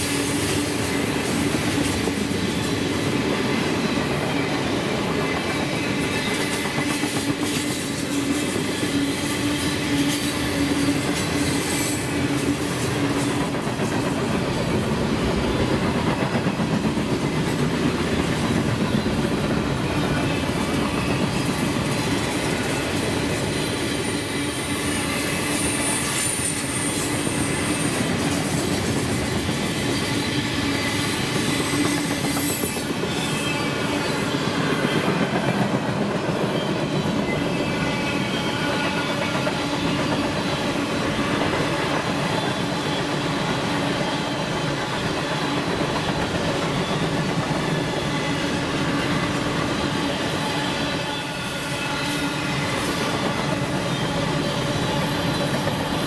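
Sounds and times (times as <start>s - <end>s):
high wheel squeal: 0.0s - 13.0s, 18.2s - 35.5s, 36.4s - 56.0s.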